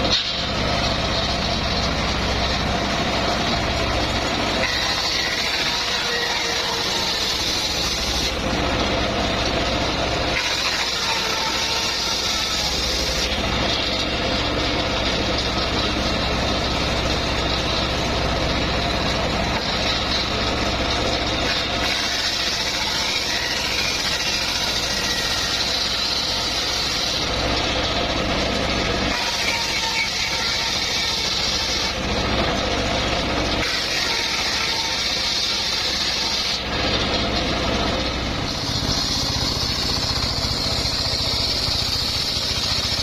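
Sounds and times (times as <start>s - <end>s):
high saw whine: 0.0s - 43.0s
sawmill engine running: 0.0s - 43.0s.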